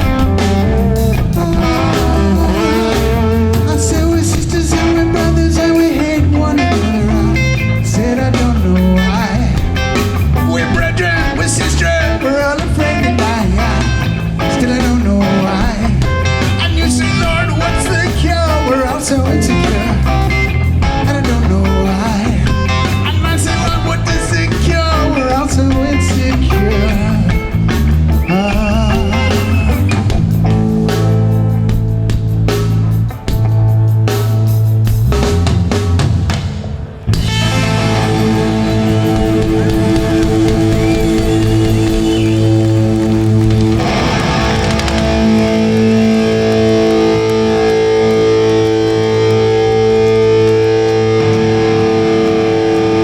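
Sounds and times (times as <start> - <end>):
bass and drums: 0.0 - 53.0
electric guitar: 0.0 - 53.0
hardcore punk band playing: 0.0 - 53.0.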